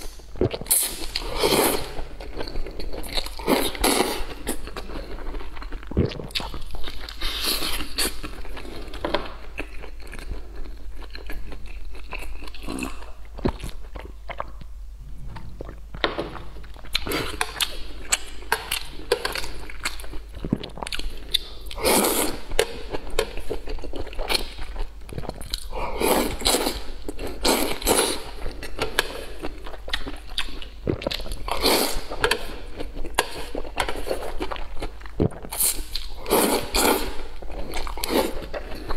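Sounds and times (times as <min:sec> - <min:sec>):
chewing and wet mouth noises: 0:00.0 - 0:38.9.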